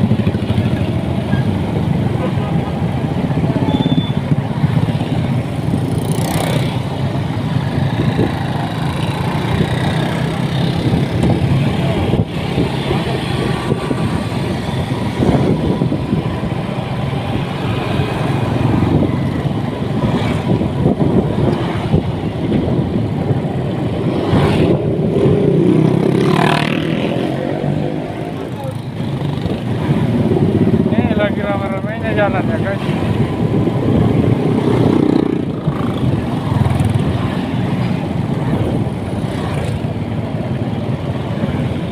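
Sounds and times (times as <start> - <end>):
motorcycle engine: 0.0 - 41.9
traffic passing: 0.0 - 41.9.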